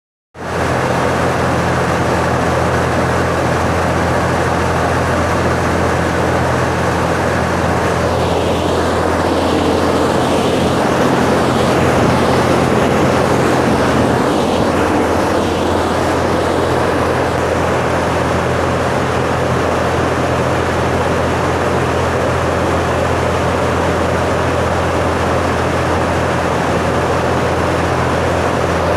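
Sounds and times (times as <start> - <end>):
exhaust fan air rush: 0.4 - 28.9
motor low hum: 0.5 - 28.9.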